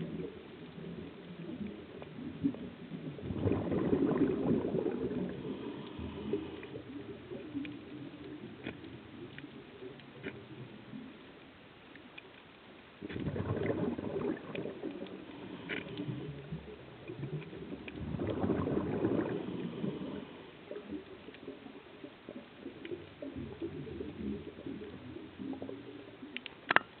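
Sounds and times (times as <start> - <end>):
underwater bubbles from diver: 0.0 - 11.4, 13.0 - 27.0
steady low hiss: 0.0 - 27.0
faint clicks: 4.5 - 27.0.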